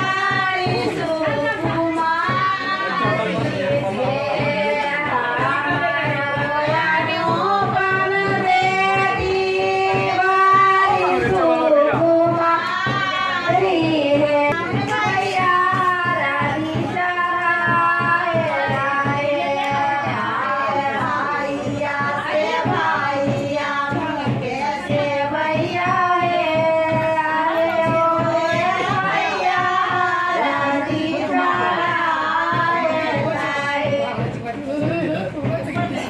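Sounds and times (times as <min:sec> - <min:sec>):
woman singing: 0:00.0 - 0:34.3
instrumental backing music: 0:00.0 - 0:36.0.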